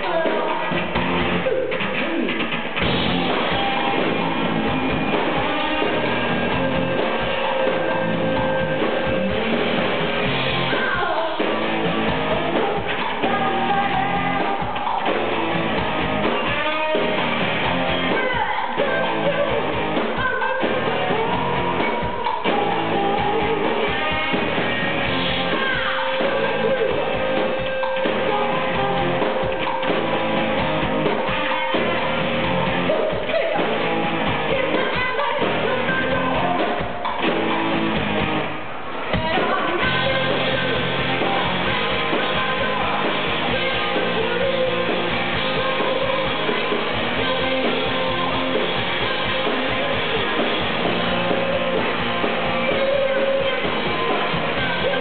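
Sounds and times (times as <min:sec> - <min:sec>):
person singing: 0:00.0 - 0:04.3, 0:10.6 - 0:15.3, 0:16.2 - 0:30.0, 0:30.6 - 0:37.3, 0:39.1 - 0:55.0
drums: 0:00.0 - 0:55.0
electric guitar: 0:00.0 - 0:55.0.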